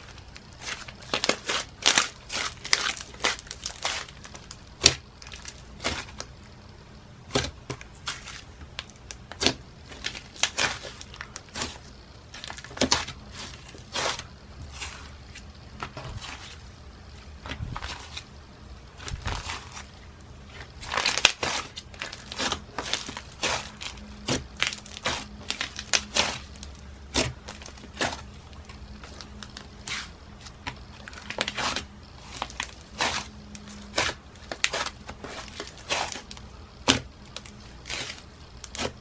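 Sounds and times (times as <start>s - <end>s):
slime squishing with pops: 0.0s - 16.6s, 19.0s - 39.0s.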